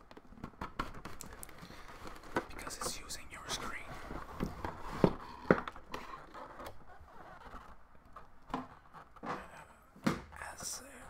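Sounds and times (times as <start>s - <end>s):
soft scraping and rustling: 0.1s - 11.0s.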